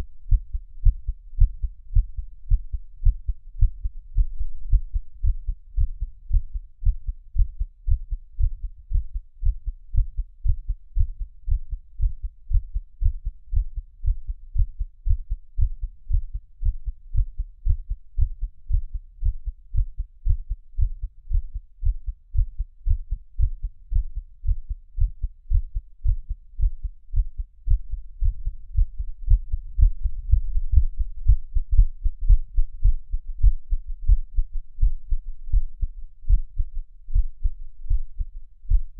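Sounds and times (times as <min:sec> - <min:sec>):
heart beating: 0:00.0 - 0:38.9.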